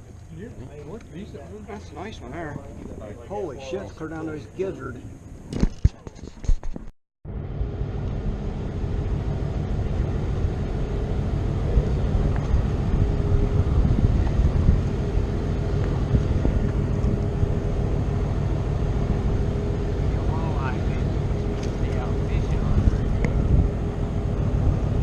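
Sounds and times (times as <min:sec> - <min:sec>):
boat engine rumbling: 0:00.0 - 0:06.1, 0:07.3 - 0:25.0.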